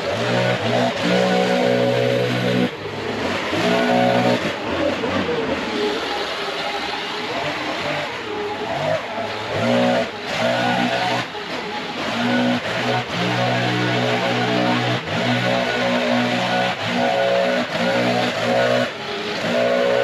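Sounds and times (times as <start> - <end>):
leaf blower running: 0.0 - 6.4, 7.2 - 20.0.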